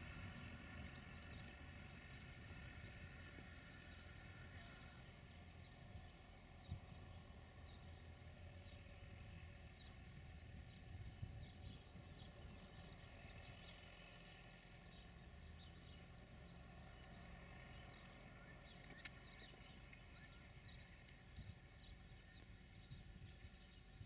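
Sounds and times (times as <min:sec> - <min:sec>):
faint birds chirping: 0:00.0 - 0:24.0
low steady rumble: 0:00.0 - 0:24.0.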